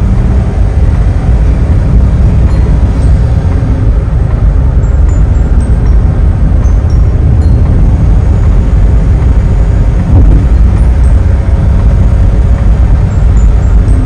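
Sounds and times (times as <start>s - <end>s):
in-cabin road and engine rumble: 0.0s - 14.0s
vehicle bump: 0.0s - 14.0s.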